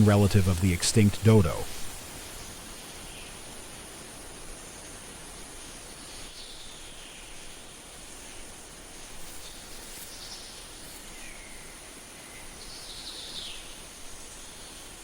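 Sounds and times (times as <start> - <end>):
background hiss: 0.0 - 15.0
high insect whine: 0.0 - 15.0.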